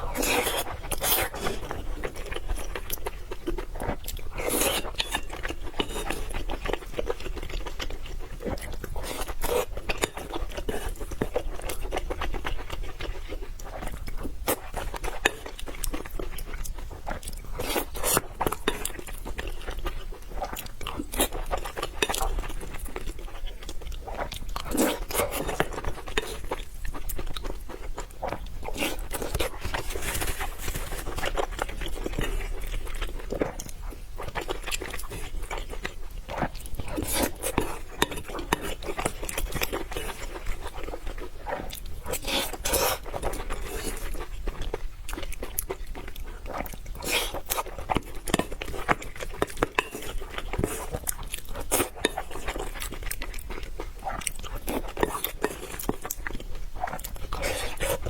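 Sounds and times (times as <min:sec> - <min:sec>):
person crunching and chewing: 0:00.0 - 0:58.0.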